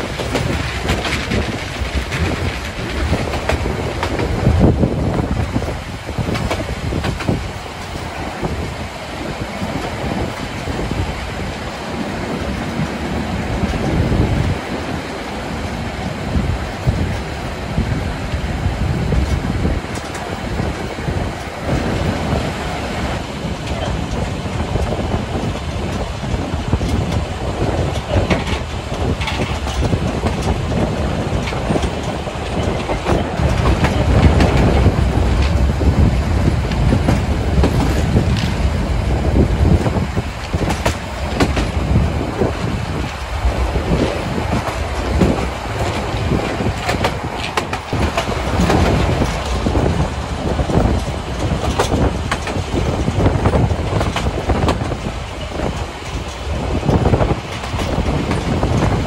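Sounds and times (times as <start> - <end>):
train rumbling: 0.0 - 59.0
wheels clacking over rails: 0.0 - 59.0.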